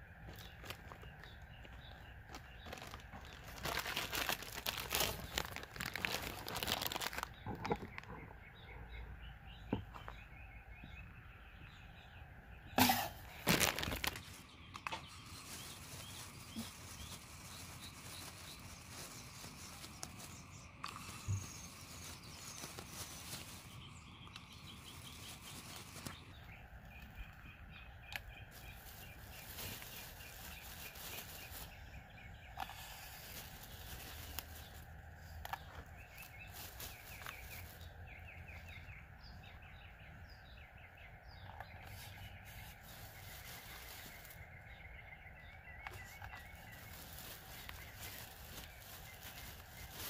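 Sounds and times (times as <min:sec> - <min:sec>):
low outdoor background: 0:00.0 - 0:50.0
small birds chirping: 0:00.0 - 0:50.0.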